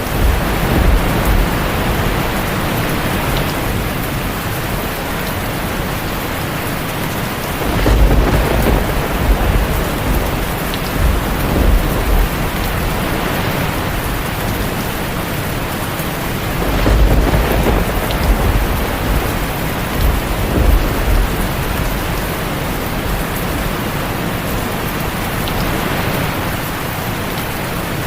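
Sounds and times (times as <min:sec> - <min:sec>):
low rumbles of thunder: 0:00.0 - 0:06.4, 0:07.4 - 0:25.6
heavy rain: 0:00.0 - 0:28.0.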